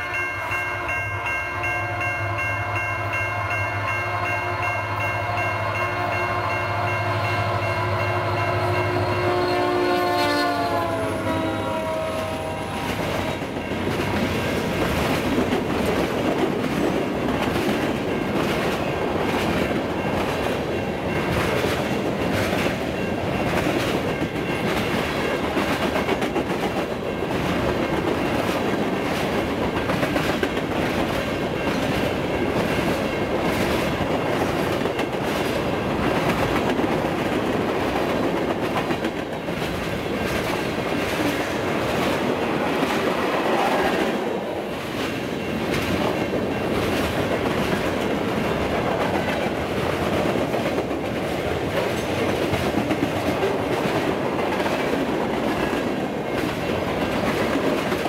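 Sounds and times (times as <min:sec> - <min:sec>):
rumble of wheels on rail: 0:00.0 - 0:58.0.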